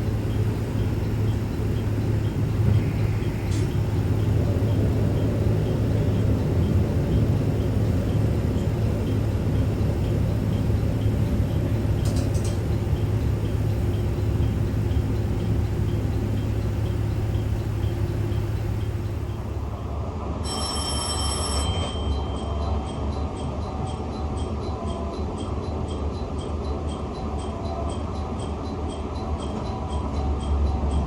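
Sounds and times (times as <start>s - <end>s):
diesel railcar engine running: 0.0s - 31.0s
rail noise: 0.0s - 31.0s.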